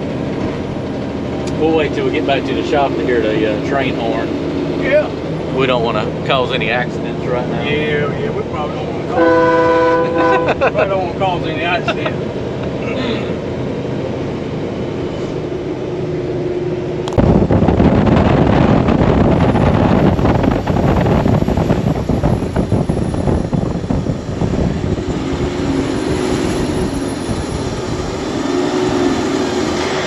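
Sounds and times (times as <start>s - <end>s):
road noise: 0.0s - 30.0s
rough diesel engine and exhaust: 0.0s - 30.0s.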